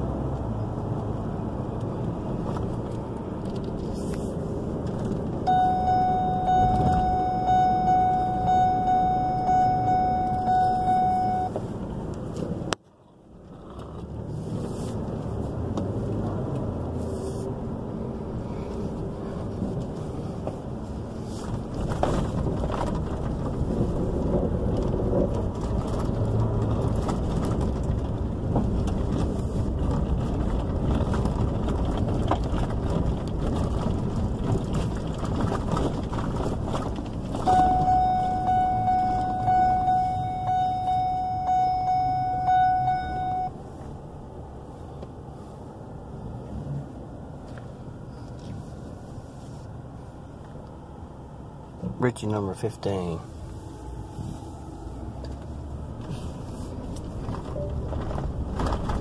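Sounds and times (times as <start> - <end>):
gravel crackling under tyres: 0.0 - 59.0
truck engine and tyre rumble: 0.0 - 59.0.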